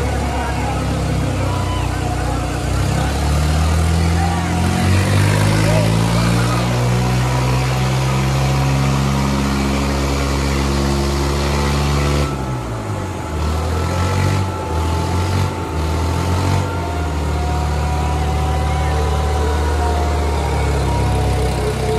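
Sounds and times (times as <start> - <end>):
tractor diesel engines under load: 0.0 - 21.9.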